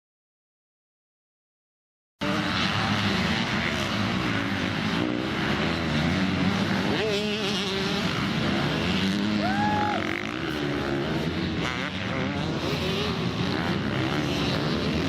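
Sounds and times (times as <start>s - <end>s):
motocross bikes revving: 2.2s - 15.0s.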